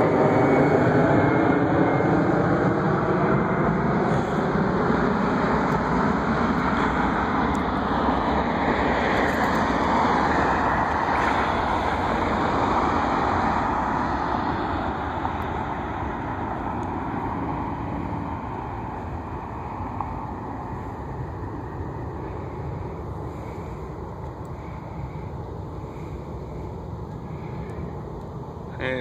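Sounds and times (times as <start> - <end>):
jet airliner rushing drone: 0.0 - 29.0.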